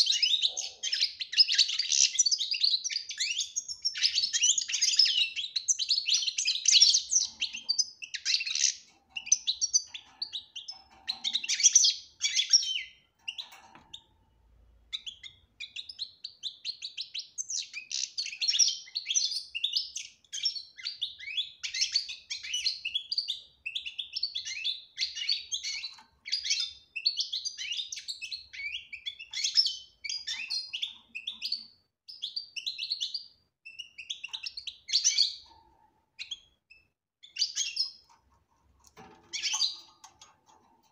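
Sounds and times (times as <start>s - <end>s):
finch twittering song: 0.0s - 14.1s, 14.9s - 35.6s, 36.2s - 38.2s, 38.9s - 40.5s.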